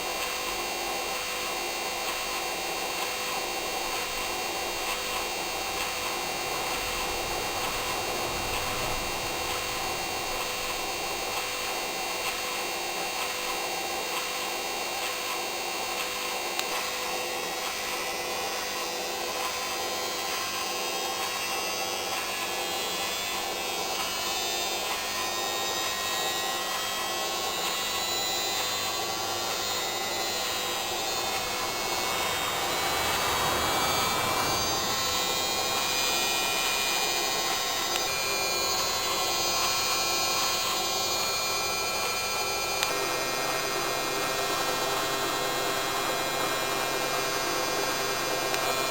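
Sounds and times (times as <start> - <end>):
washing machine motor humming and whining: 0.0 - 48.9.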